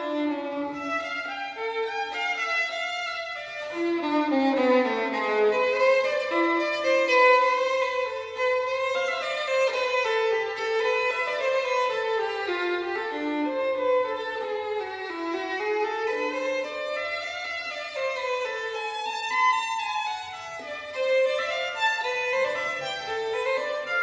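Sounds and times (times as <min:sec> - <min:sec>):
solo violin slow melody: 0:00.0 - 0:24.0.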